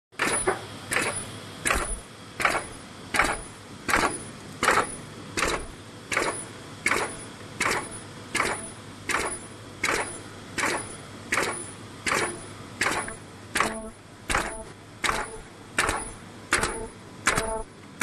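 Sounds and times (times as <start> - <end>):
machine mechanical stroke: 0.2 - 17.7
low steady machine hum: 0.2 - 18.0.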